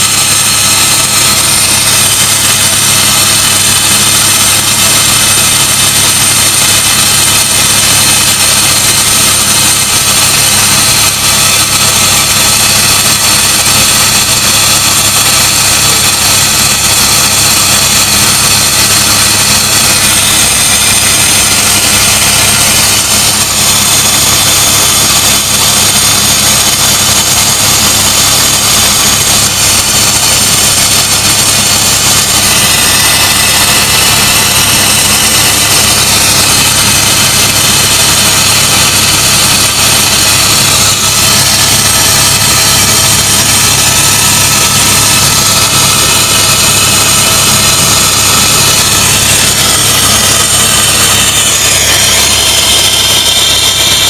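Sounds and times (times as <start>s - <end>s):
helicopter engine and rotor noise: 0.0s - 54.0s.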